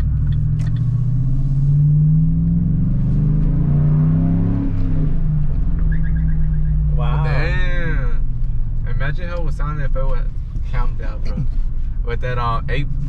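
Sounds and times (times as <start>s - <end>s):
engine exhaust rumble accelerating: 0.0s - 13.0s.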